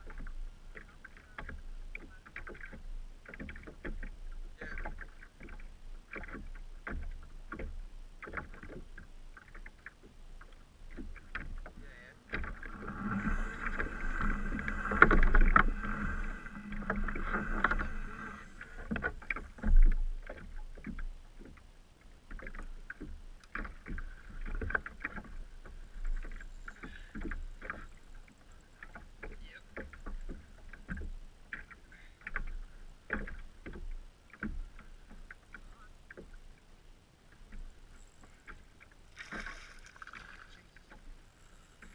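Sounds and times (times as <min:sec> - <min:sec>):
small knocks from boat gear: 0:00.0 - 0:36.7
water slapping against boat hull: 0:00.0 - 0:36.7, 0:37.3 - 0:41.2.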